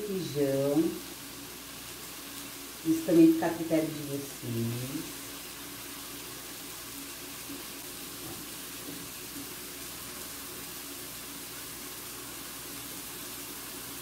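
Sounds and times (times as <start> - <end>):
food hissing in a pot: 0.0 - 14.0.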